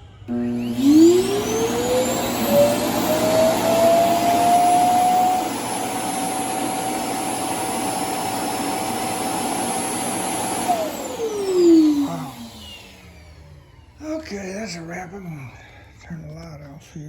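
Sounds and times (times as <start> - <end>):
suction motor whine: 0.0 - 14.2.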